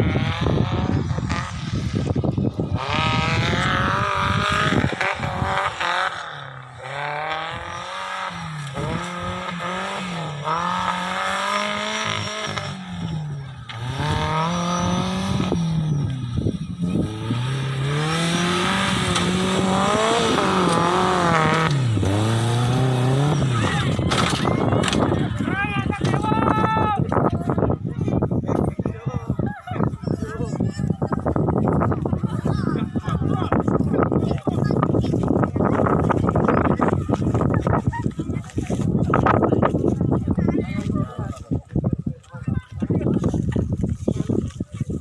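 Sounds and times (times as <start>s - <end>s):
off-road vehicle engine revving: 0.0s - 29.0s, 29.8s - 41.4s.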